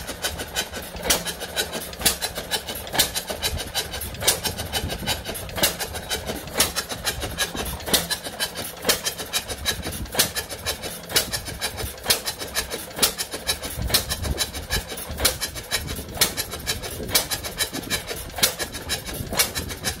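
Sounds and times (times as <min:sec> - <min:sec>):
engine clicking and knocking: 0:00.0 - 0:20.0
stationary engine beating: 0:00.0 - 0:20.0.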